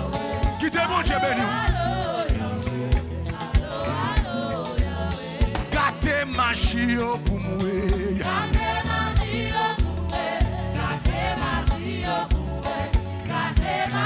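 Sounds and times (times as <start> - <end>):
bass: 0.0 - 14.0
drum kit: 0.0 - 14.0
voices singing: 0.0 - 14.0.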